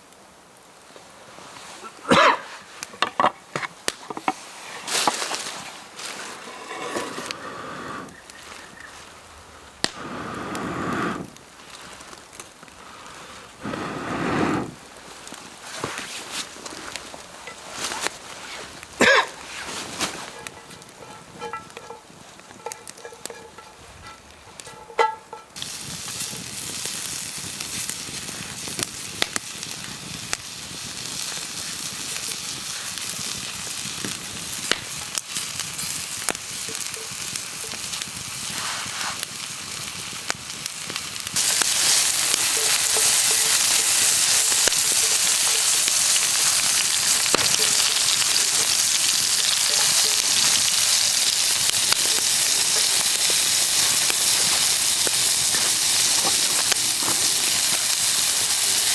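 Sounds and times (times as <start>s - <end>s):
pops and crackles: 2.2s - 6.4s, 9.8s - 58.9s
food sizzling in a pan: 4.3s - 11.7s, 13.6s - 58.9s.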